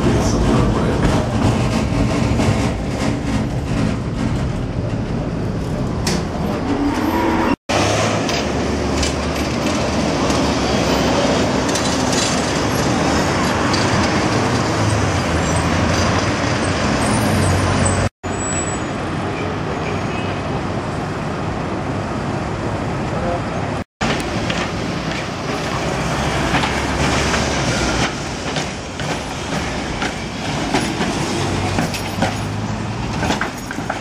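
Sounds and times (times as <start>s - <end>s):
road traffic: 0.0s - 34.0s
tram humming on track: 0.0s - 34.0s.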